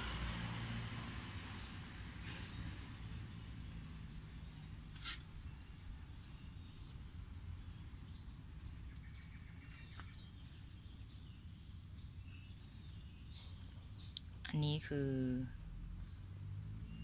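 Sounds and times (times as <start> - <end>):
small birds chirping: 1.5 - 17.0.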